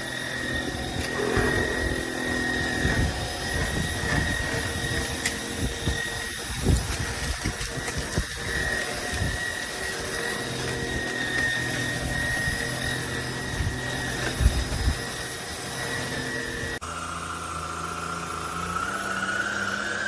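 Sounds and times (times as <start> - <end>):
vacuum cleaner motor whine: 0.0 - 20.0.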